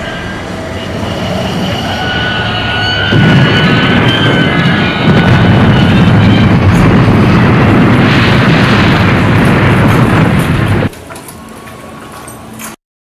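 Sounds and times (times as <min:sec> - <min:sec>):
deep explosion-like rumble: 0:00.0 - 0:10.9
steady hum: 0:00.0 - 0:12.7.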